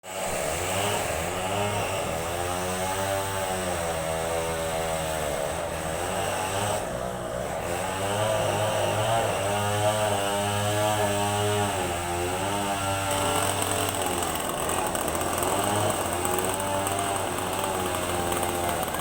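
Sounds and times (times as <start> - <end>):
engine droning: 0.3 - 19.0.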